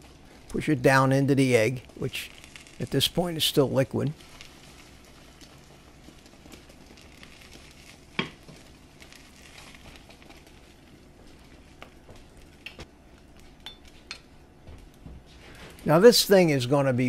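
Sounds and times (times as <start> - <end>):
eggs sizzling in a pan: 0.0 - 14.9.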